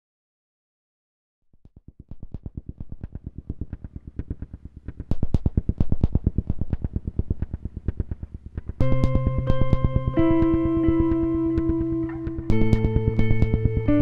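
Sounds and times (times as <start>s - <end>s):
fast pulsing music beat: 1.7s - 14.0s.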